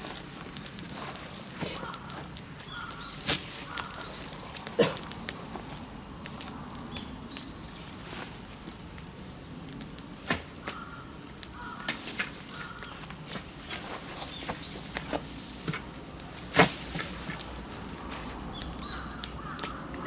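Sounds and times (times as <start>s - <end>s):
campfire crackling and popping: 0.0s - 20.0s
high-pitched hiss: 0.0s - 20.0s.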